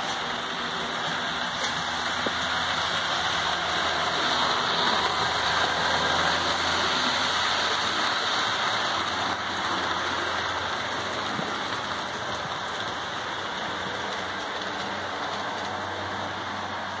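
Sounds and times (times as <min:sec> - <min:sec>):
model train wheels rattling on rail: 0:00.0 - 0:17.0.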